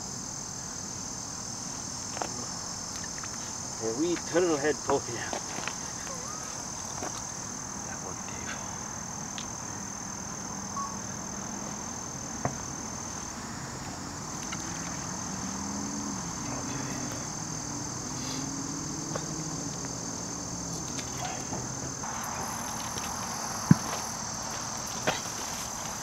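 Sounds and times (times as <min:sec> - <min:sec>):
high-pitched insect trill: 0:00.0 - 0:26.0.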